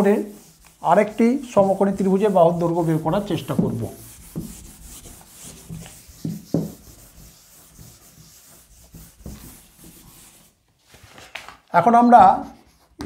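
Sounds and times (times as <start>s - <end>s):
duster rubbing chalkboard: 0.0s - 10.6s.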